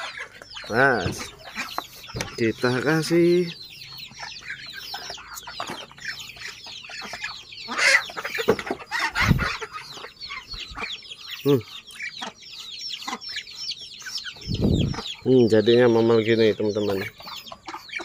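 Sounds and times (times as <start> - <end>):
chicks peeping: 0.0 - 18.0
low chicken cluck: 0.0 - 18.0.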